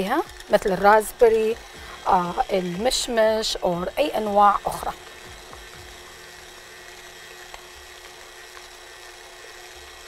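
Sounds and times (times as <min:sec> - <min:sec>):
constant whine: 0:00.0 - 0:10.0
faint mechanical hum: 0:00.0 - 0:10.0.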